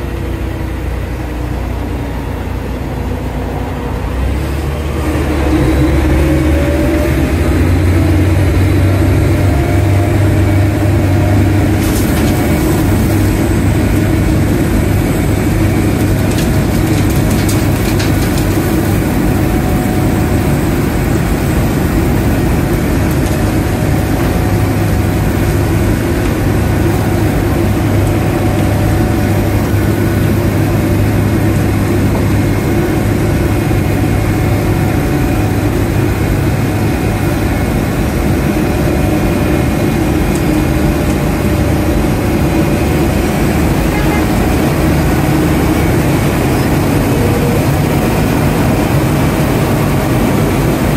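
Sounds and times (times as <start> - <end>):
diesel machinery humming: 0.0 - 50.9.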